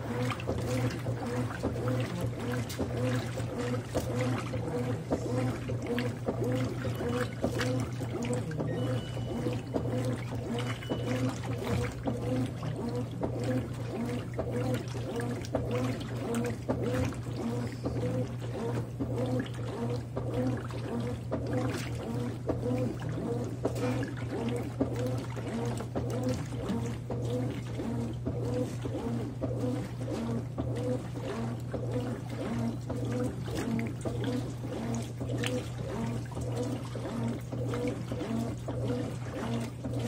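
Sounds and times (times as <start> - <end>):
washing machine hum: 0.0 - 40.0
water sloshing and swishing: 0.0 - 40.0.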